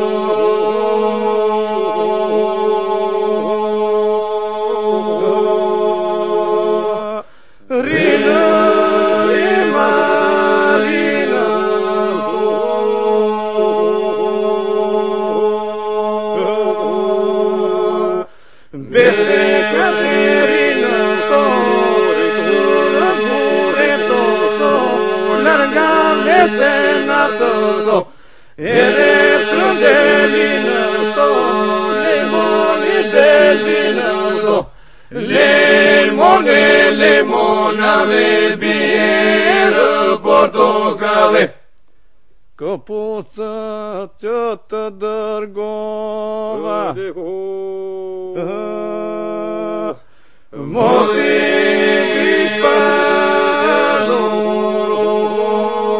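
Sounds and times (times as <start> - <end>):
group singing a cappella folk song: 0.0 - 41.6, 42.9 - 55.9
held vocal drone: 0.0 - 41.6, 42.6 - 55.9.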